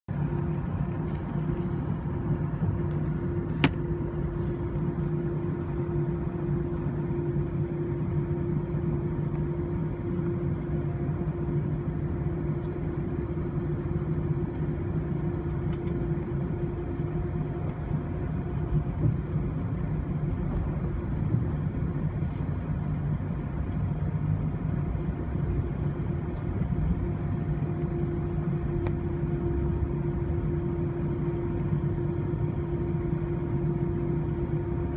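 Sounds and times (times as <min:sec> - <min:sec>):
jet engine cabin drone: 0:00.1 - 0:34.9.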